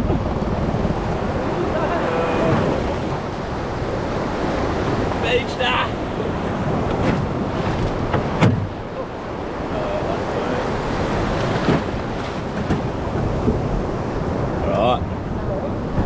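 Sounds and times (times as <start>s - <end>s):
water splashing against boat hull: 0.0s - 9.0s, 10.2s - 16.0s
wind buffeting microphone: 0.0s - 16.0s.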